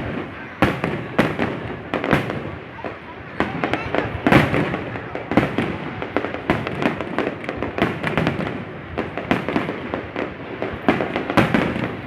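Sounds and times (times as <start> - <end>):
fireworks bangs and crackles: 0.0 - 12.0
loud fireworks booms: 0.0 - 12.0.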